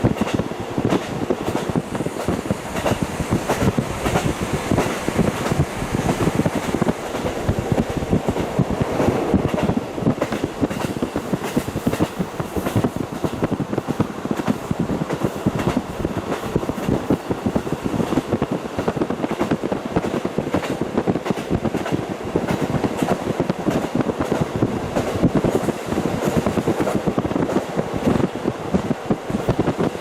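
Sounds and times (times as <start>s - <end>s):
steady train rumble: 0.0s - 30.0s
train wheels clattering over rails: 0.0s - 30.0s.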